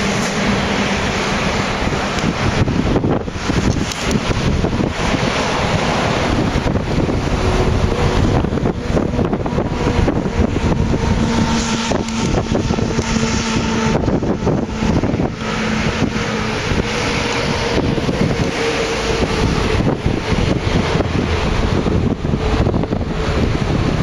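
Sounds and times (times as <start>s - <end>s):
diesel locomotive engine running: 0.0s - 24.0s
wind noise on microphone: 0.0s - 24.0s.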